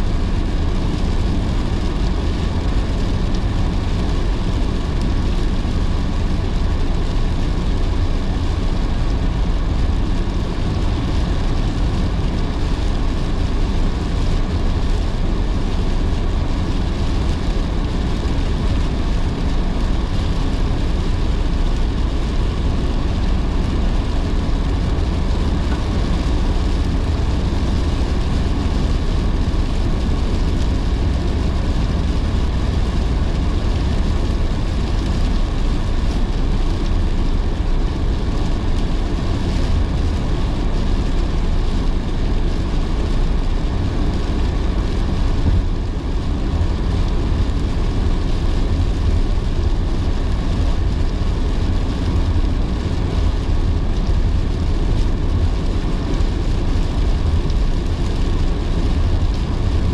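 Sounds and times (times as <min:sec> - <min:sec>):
car engine rumble: 0:00.0 - 0:59.9
heavy rain: 0:00.0 - 0:59.9
tyres hissing on wet road: 0:00.0 - 0:59.9.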